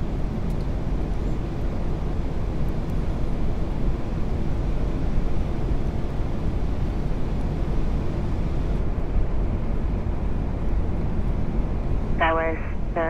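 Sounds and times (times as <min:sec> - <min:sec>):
cockpit airflow and engine rush: 0:00.0 - 0:13.0.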